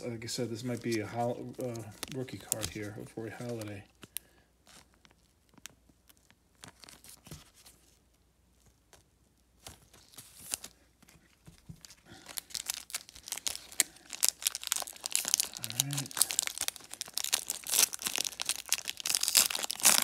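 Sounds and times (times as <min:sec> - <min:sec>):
cards and plastic sleeve rustling: 0:00.3 - 0:20.0
foil pack crinkling and tearing: 0:00.6 - 0:08.0, 0:09.6 - 0:10.9, 0:11.6 - 0:20.0.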